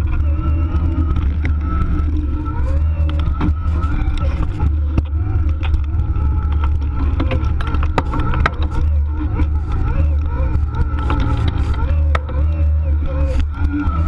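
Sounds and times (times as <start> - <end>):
bike rattling and knocking: 0.0 - 14.0
electric motor whine: 0.0 - 14.0
rumble on the microphone: 0.0 - 14.0.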